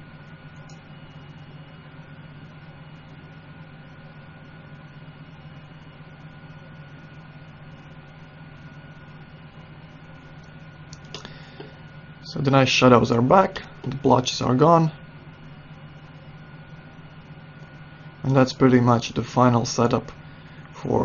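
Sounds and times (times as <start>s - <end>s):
computer fans humming: 0.0s - 21.0s
faint high whine: 0.0s - 21.0s.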